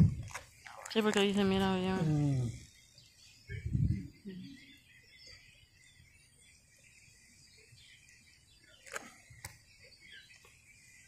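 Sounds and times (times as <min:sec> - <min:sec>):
faint bird chirps: 0:00.1 - 0:11.0.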